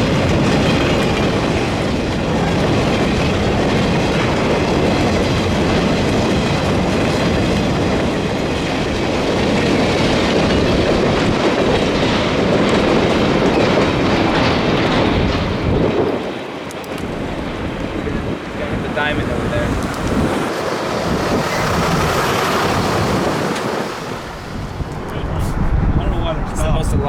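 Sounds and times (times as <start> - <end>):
train wheels clattering over rail joints: 0.0 - 25.8.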